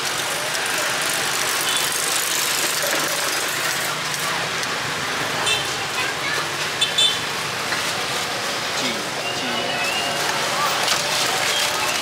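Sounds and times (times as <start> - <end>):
distant chatter: 0.0 - 12.0
traffic: 0.0 - 12.0.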